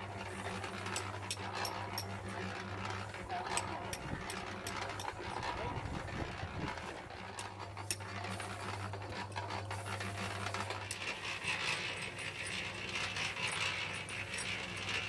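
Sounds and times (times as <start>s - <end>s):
cement mixer motor humming: 0.0s - 15.0s.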